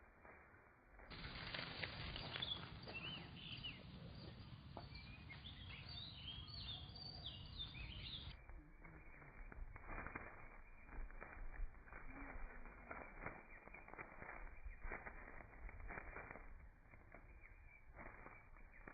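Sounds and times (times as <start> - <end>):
faint outdoor background noise: 0.0 - 18.9.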